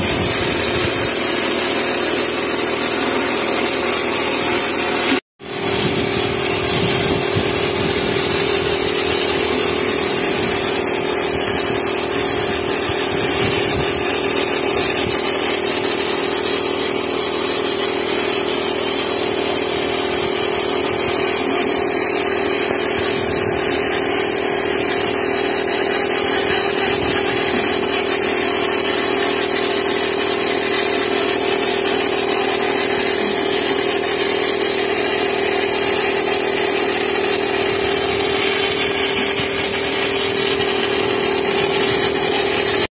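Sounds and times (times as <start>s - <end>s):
motor humming with high hiss: 0.0s - 42.9s.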